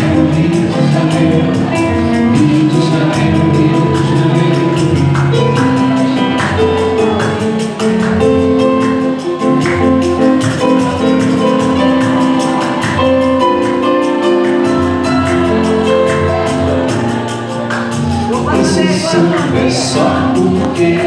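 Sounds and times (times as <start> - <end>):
instrumental samba music: 0.0 - 21.0.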